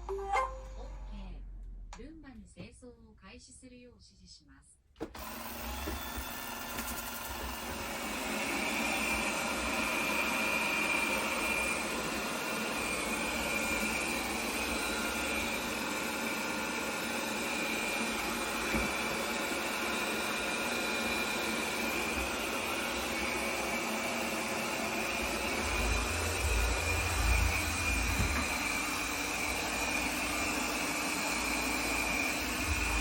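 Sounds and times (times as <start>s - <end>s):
robot vacuum whirring: 5.0s - 33.0s.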